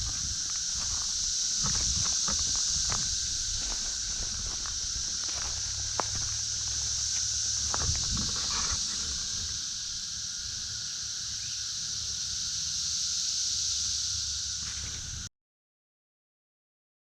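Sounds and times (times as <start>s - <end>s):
cicadas droning: 0.0s - 15.3s.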